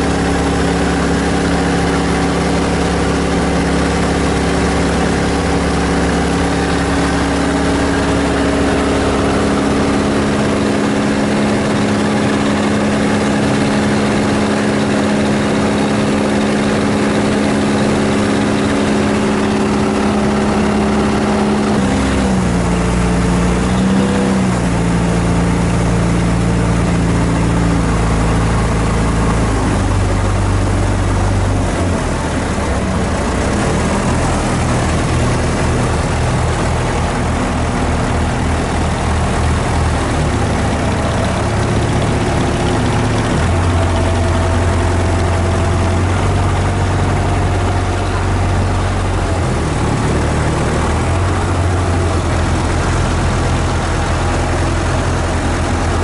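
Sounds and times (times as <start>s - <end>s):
boat motor running: 0.0s - 56.0s.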